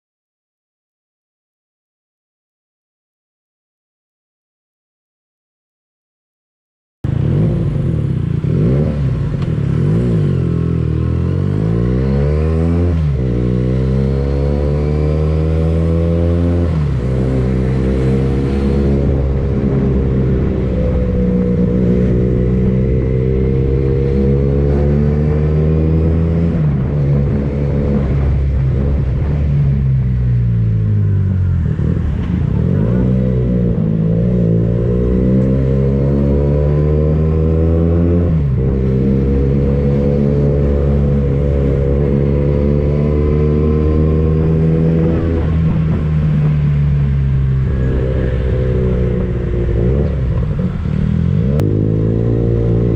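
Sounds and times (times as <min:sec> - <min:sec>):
motorcycle engine accelerating: 0:07.1 - 0:52.9.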